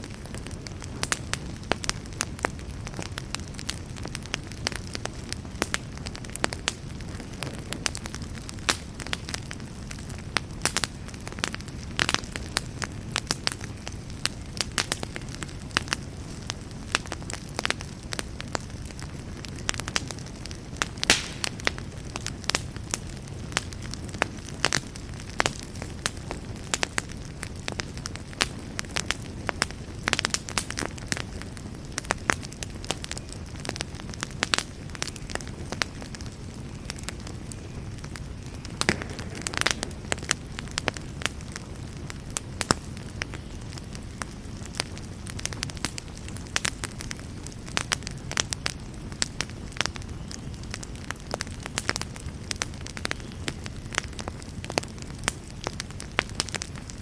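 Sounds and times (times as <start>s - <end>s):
campfire crackles and pops: 0.0s - 57.0s
low rumble of flame: 0.0s - 57.0s.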